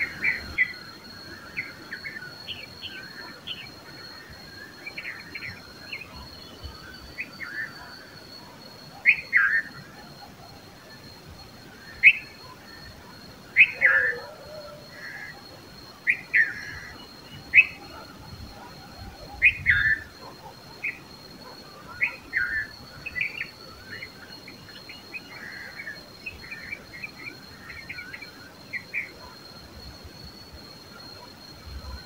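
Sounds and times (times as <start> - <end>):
faint high whine: 0.0 - 32.0.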